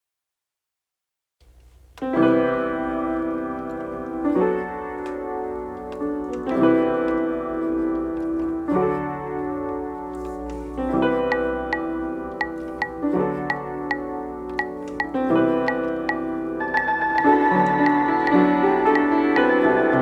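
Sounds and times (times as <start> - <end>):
piano playing slow chords: 2.0 - 20.0.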